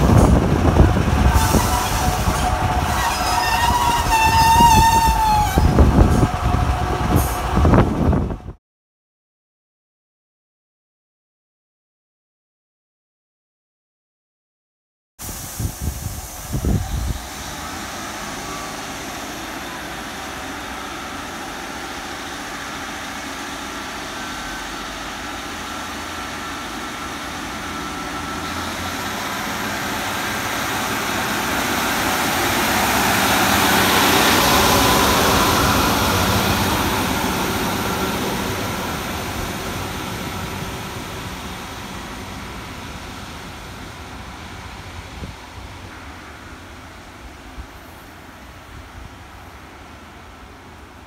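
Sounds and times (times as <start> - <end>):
diesel train passing: 0.0 - 8.6, 15.2 - 51.0.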